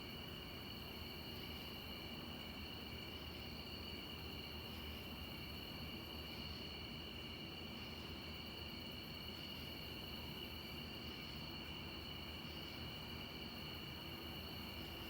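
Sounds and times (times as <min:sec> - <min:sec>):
faint background hiss: 0:00.0 - 0:15.0
insect chorus: 0:00.0 - 0:15.0.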